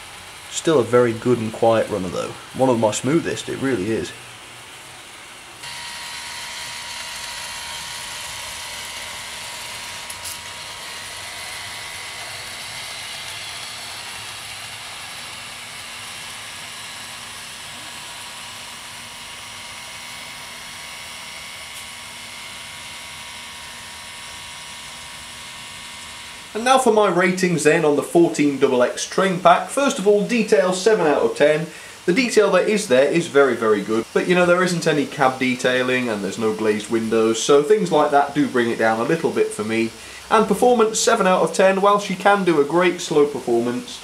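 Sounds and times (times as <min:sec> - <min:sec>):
model train motor whirring: 0:00.0 - 0:44.0.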